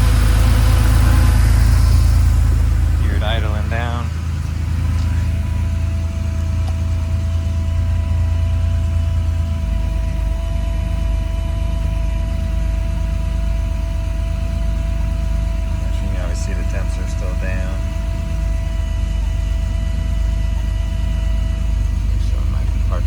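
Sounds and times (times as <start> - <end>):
car engine idling: 0.0 - 23.0
thin steady whine: 0.0 - 23.0.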